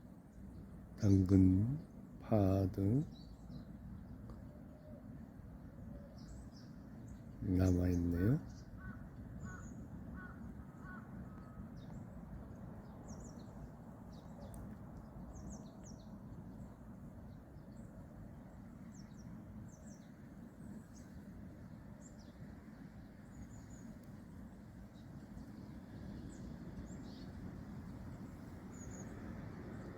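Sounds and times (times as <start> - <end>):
low outdoor background rumble: 0.0 - 29.9
small birds chirping: 0.2 - 29.9.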